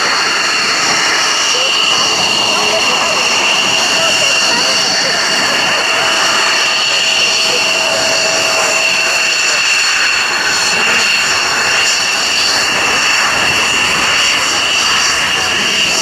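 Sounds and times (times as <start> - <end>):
jet engine roar with whine: 0.0 - 16.0.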